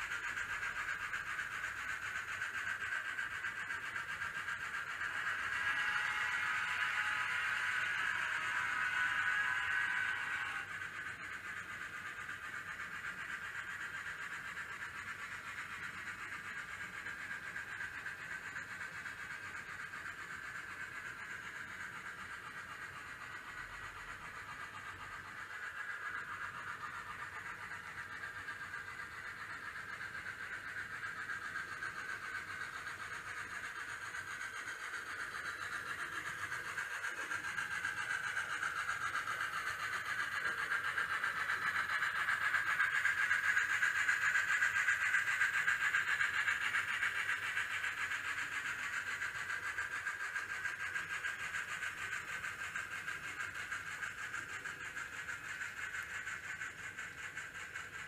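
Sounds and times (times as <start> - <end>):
model train running on track: 0.0 - 58.0.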